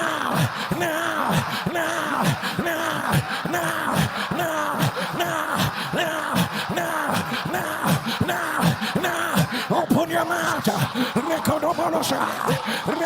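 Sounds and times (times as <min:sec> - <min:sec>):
man chanting rapidly: 0:00.0 - 0:13.0.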